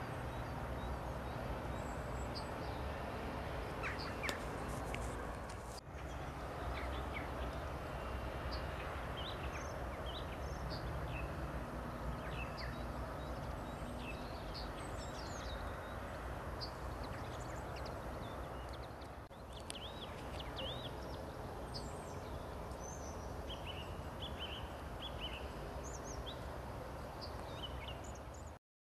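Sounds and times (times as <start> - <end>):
songbirds chirping: 0.0 - 28.6.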